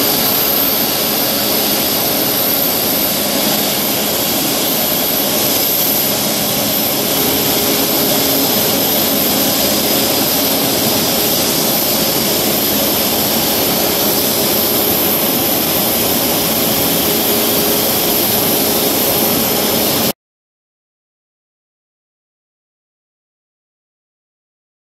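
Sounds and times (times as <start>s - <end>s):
jet turbine whine: 0.0s - 20.2s.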